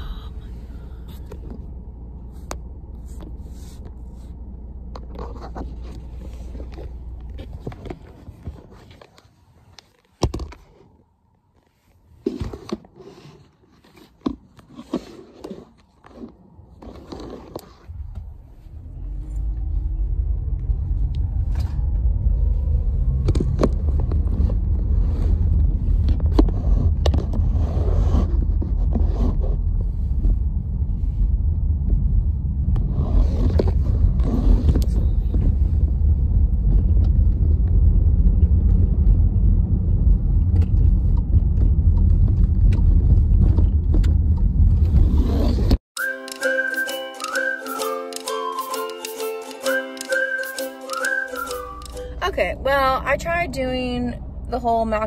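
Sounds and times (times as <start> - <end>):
car road and engine rumble: 0.0 - 45.9, 51.0 - 55.0.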